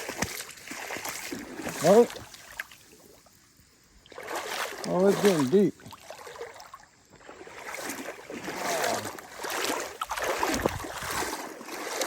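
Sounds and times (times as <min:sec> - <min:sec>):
wading through deep water: 0:00.0 - 0:12.0.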